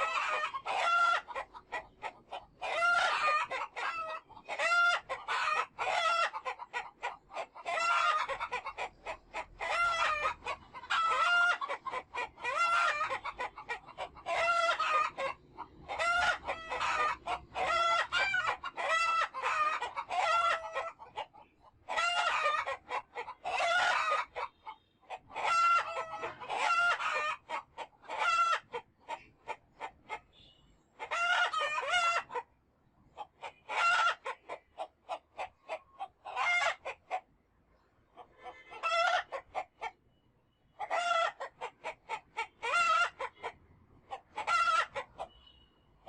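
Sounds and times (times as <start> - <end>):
chickens clucking: 0.0 - 45.6.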